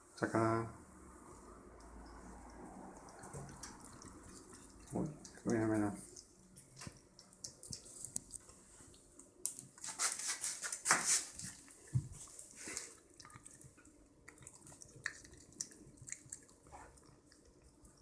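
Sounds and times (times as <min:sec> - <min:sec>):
cat chewing and licking: 0:01.3 - 0:18.0.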